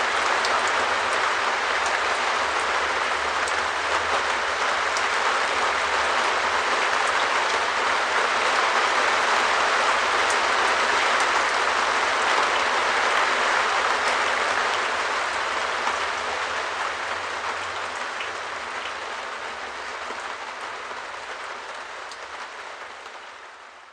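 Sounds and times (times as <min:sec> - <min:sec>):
rain on a shed roof: 0:00.0 - 0:23.9.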